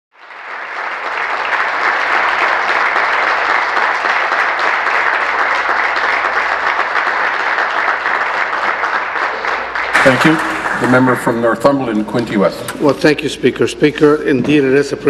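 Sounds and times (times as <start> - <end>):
dense applause: 0.1 - 12.5.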